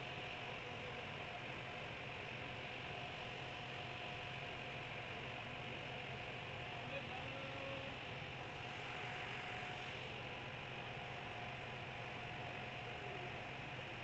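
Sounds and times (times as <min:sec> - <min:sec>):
constant hiss: 0:00.0 - 0:14.0
ferry engine humming: 0:00.0 - 0:14.0.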